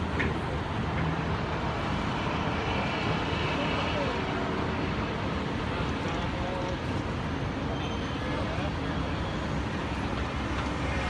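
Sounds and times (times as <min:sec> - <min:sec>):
steady outdoor rumble: 0:00.0 - 0:11.0.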